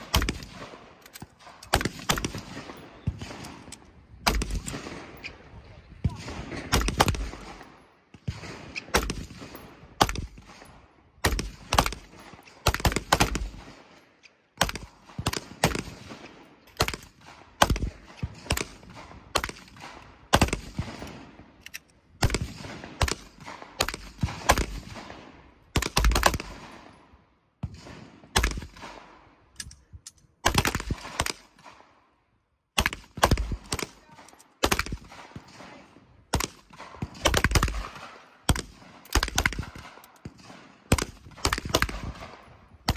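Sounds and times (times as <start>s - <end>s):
gunshots: 0.0s - 5.4s, 6.0s - 13.9s, 14.6s - 21.4s, 22.2s - 26.9s, 27.6s - 29.3s, 30.4s - 32.0s, 32.8s - 42.9s.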